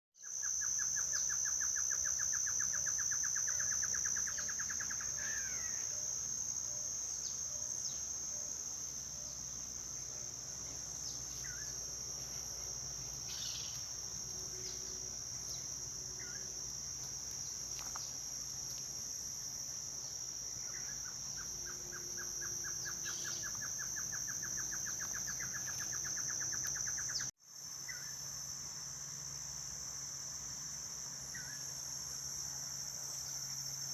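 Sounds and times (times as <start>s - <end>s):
insect chorus: 0.2s - 33.9s.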